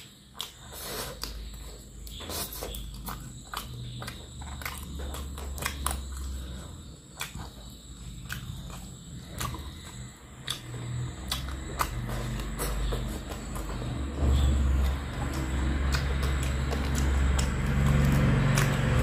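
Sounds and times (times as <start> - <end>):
chewing and mouth smacking: 0.0 - 19.0
low steady hum: 0.0 - 19.0.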